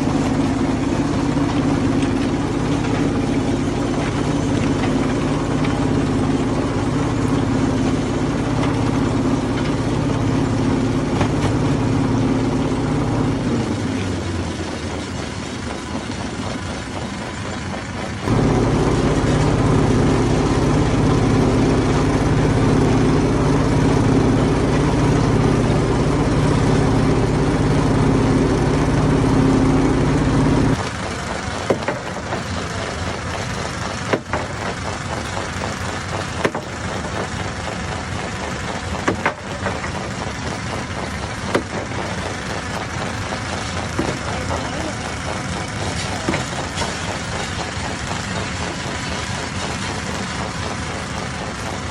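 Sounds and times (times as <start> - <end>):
low steady machine noise: 0.0 - 51.9
stone crusher machinery humming: 0.0 - 51.9.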